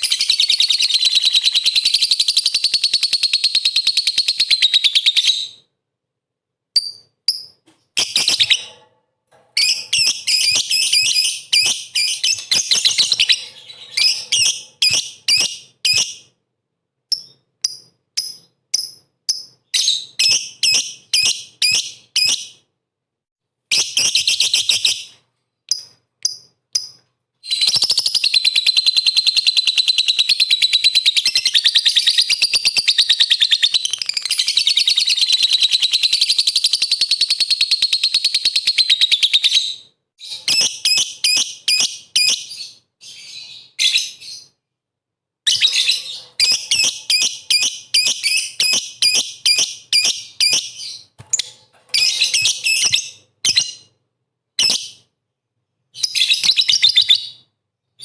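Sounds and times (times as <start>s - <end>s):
lovebird chirping and trilling: 0.0s - 5.7s, 6.8s - 8.8s, 9.6s - 16.3s, 17.1s - 22.6s, 23.7s - 44.6s, 45.5s - 53.9s, 54.6s - 55.1s, 55.9s - 57.5s.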